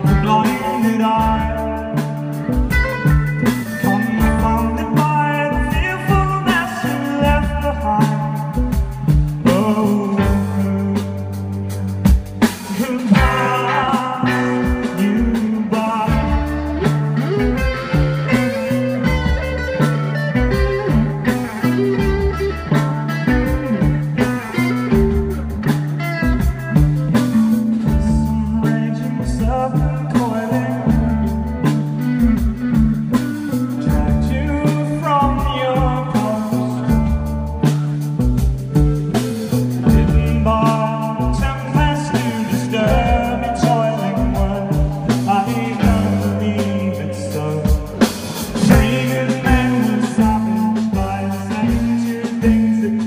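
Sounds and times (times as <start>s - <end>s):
bass guitar: 0.0s - 53.0s
drums: 0.0s - 53.0s
electric guitars: 0.0s - 53.0s.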